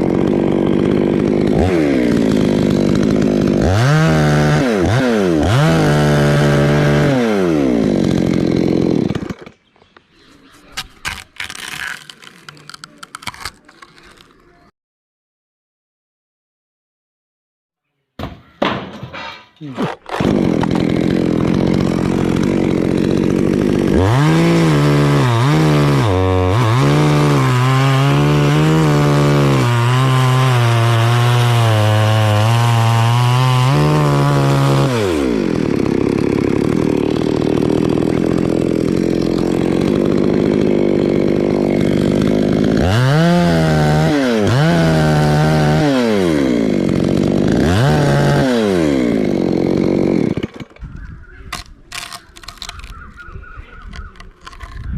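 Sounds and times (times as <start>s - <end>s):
chainsaw cutting wood: 0.0s - 9.7s, 10.8s - 14.5s, 19.2s - 50.9s, 51.5s - 54.9s.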